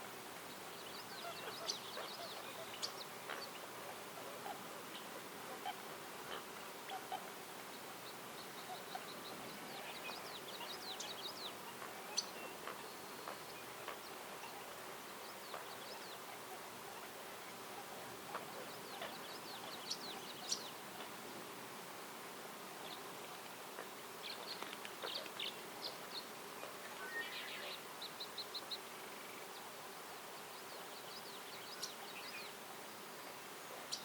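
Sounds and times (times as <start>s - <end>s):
small birds chirping: 0.0s - 21.4s, 22.4s - 34.0s
steady faint hiss: 0.0s - 34.0s.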